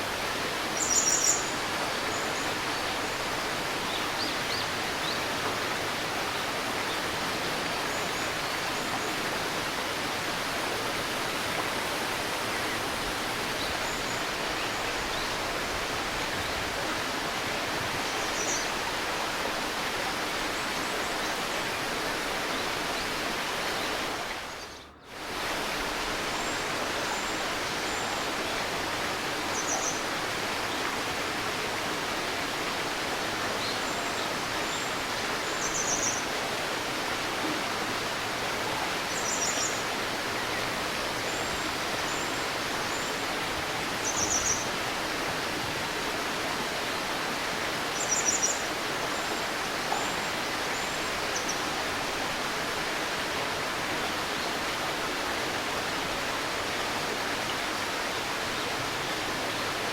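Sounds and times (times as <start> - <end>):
river babbling: 0.0 - 59.9.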